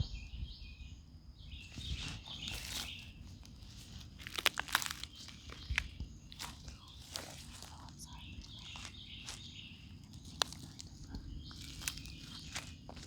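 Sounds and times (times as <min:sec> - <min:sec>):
footsteps crunching on twigs: 0:01.6 - 0:13.0.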